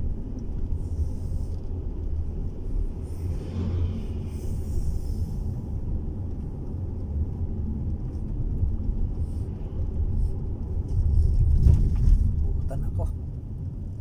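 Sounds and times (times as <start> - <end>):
engine rumble inside car: 0.0 - 14.0.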